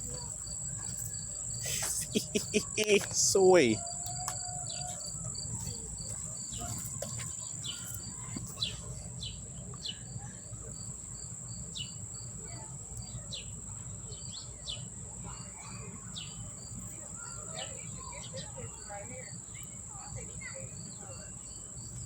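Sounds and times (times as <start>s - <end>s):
insect chirping: 0.0s - 22.0s
insects trilling: 0.0s - 22.0s
small birds chirping: 0.0s - 22.0s.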